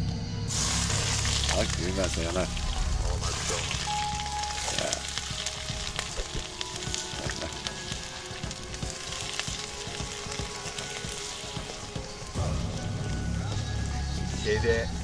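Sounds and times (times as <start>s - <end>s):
rice sizzling and bubbling: 0.5s - 15.0s
wood fire crackling and popping: 0.5s - 15.0s.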